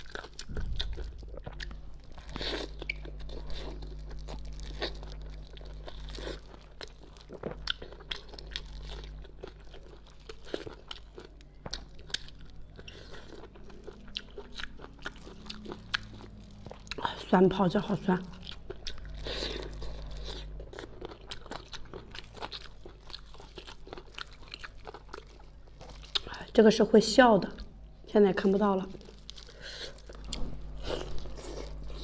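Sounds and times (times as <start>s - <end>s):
wet chewing: 0.0s - 26.3s.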